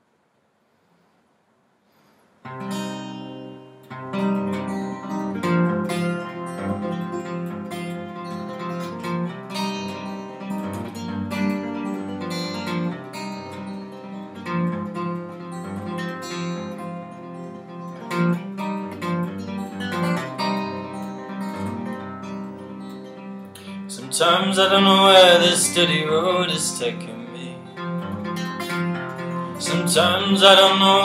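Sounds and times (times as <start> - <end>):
acoustic guitar picked chords: 2.4 - 31.0.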